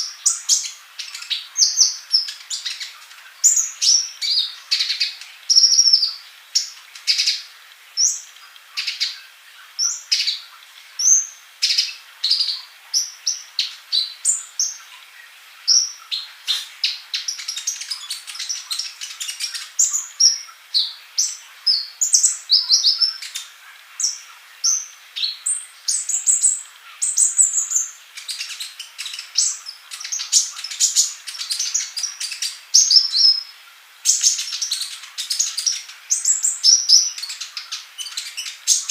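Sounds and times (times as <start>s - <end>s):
bird singing high chirps: 0.0s - 38.9s.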